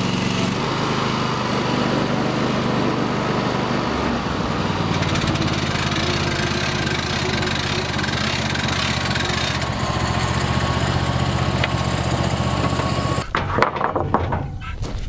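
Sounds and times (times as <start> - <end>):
sawmill engine milling boards: 0.0 - 15.0.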